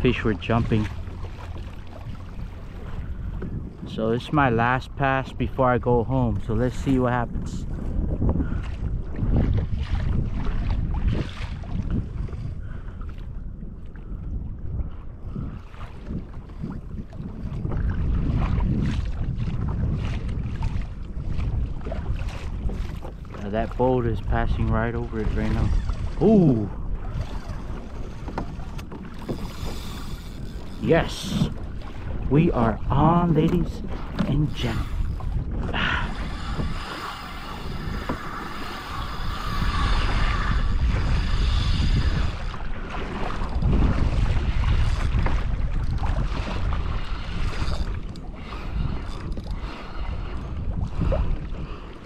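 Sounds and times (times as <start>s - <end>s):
water splashing against hull: 0.0s - 52.0s
wind buffeting microphone: 0.0s - 52.0s.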